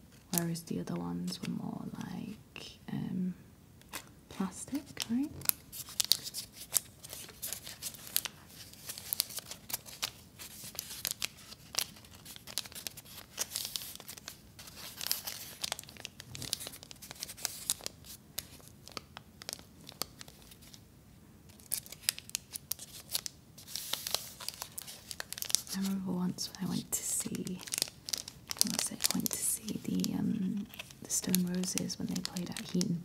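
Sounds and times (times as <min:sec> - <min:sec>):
paper wrapper crinkling: 0:03.8 - 0:20.8, 0:21.5 - 0:33.0.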